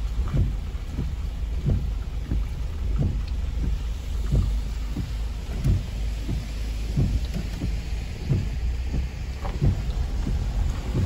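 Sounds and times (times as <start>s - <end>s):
car rolling low rumble: 0.0s - 11.0s
rain thudding on car roof: 0.0s - 11.0s.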